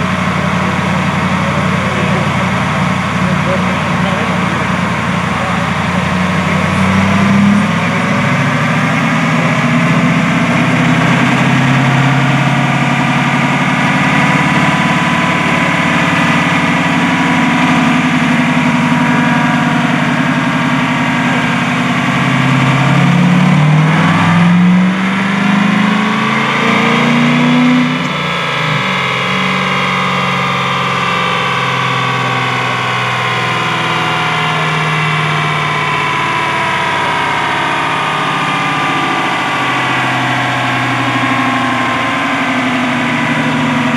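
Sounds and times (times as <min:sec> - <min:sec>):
car engine idling: 0:00.0 - 0:43.9
car engine revving: 0:00.0 - 0:43.9.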